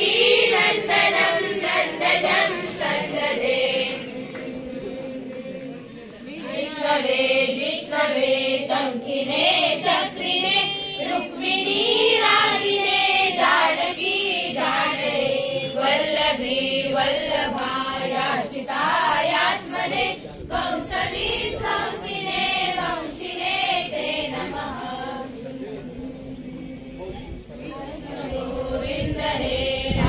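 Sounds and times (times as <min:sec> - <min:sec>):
children singing: 0:00.0 - 0:25.3.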